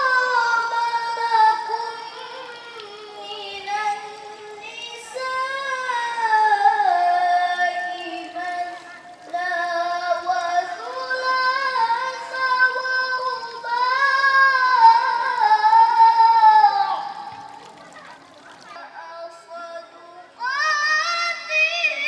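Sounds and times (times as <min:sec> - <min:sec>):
girl chanting melodic recitation: 0:00.0 - 0:22.0.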